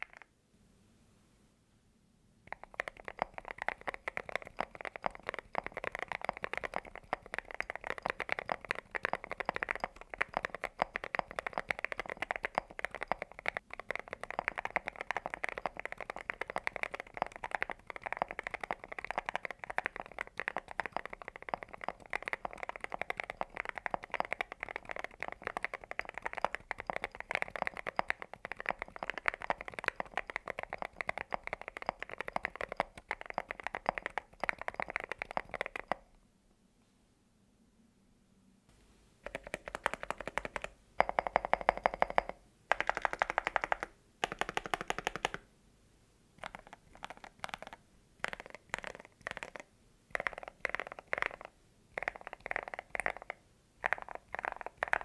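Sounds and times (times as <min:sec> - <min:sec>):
fast mechanical keyboard typing: 0:02.5 - 0:36.2, 0:39.2 - 0:45.4, 0:46.4 - 0:55.0.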